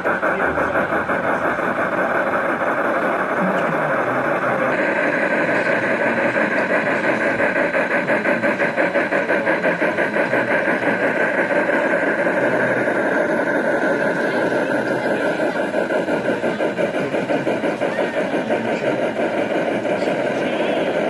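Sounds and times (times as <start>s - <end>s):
rhythmic engine-like chugging: 0.0s - 21.0s.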